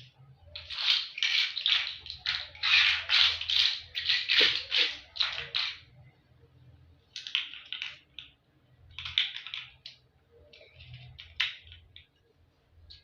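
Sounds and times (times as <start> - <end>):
toy blocks clicking and rattling: 0.0 - 5.9, 7.1 - 12.2.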